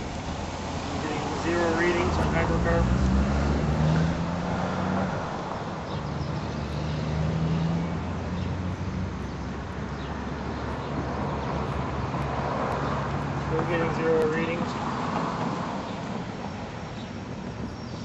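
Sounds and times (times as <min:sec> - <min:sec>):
background traffic: 0:00.0 - 0:18.0
engine humming: 0:00.0 - 0:18.0.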